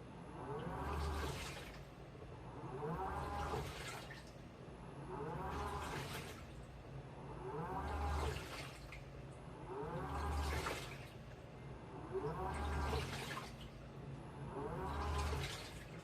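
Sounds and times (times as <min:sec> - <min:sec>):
washing machine motor whining: 0:00.0 - 0:16.0
water sloshing: 0:00.4 - 0:02.1, 0:02.7 - 0:04.6, 0:05.2 - 0:16.0.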